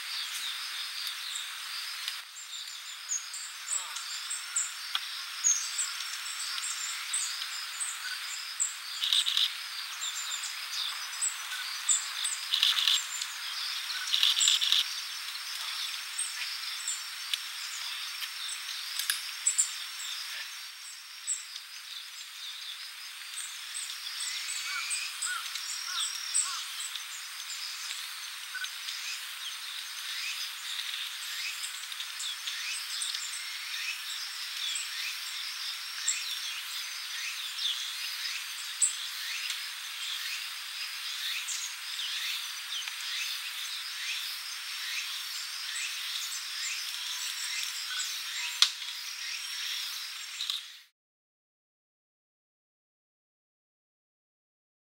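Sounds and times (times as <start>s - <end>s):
small birds calling: 0.0s - 50.8s.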